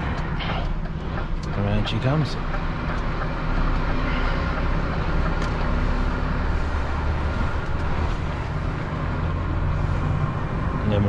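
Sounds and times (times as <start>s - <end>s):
diesel truck engine droning: 0.0s - 11.0s
road noise: 0.0s - 11.0s.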